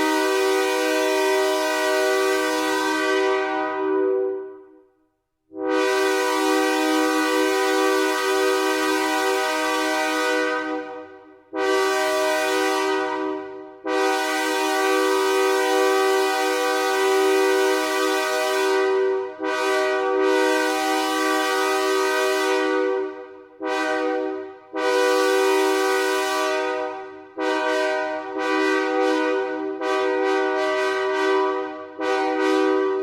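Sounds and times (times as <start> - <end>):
air horn blasts: 0.0 - 4.8, 5.5 - 33.0.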